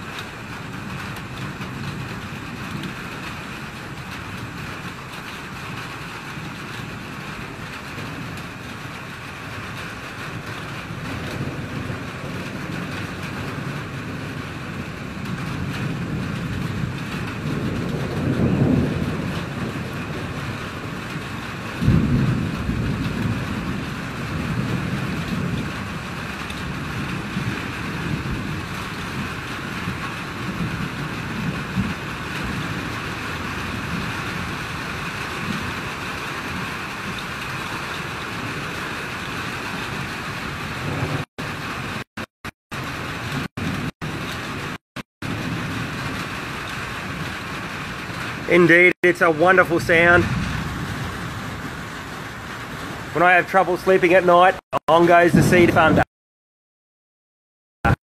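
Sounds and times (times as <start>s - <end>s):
thunder rumbling: 0.0s - 42.0s, 42.7s - 56.1s
steady rain: 0.0s - 56.1s
thunder clap: 0.0s - 56.1s.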